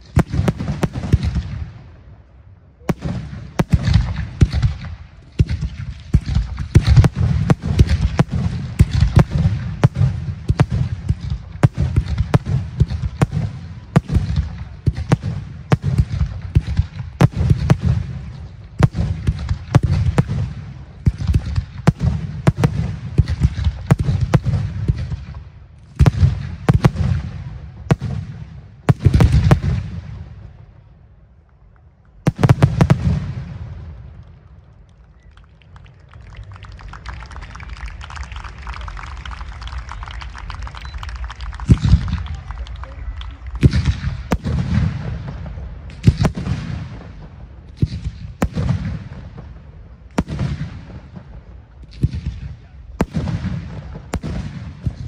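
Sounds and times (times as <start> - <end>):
firework booms and crackling: 0.0 - 35.4, 36.4 - 55.0.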